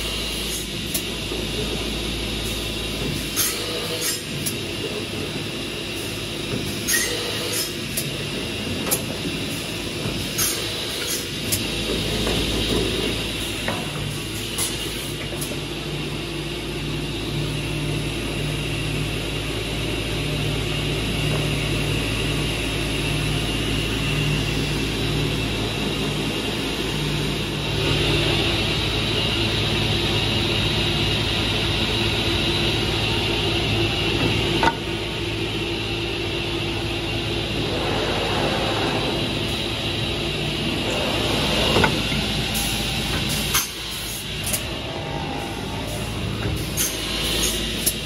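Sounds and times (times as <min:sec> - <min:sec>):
woodworking machinery whine: 0:00.0 - 0:48.0.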